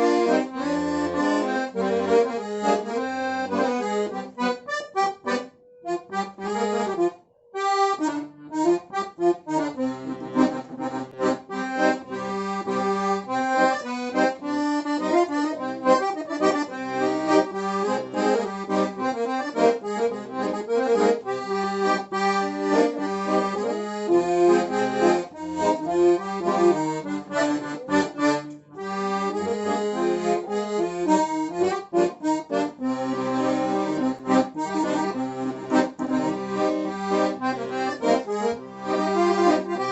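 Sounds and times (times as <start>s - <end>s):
accordion playing melody: 0.0s - 39.9s.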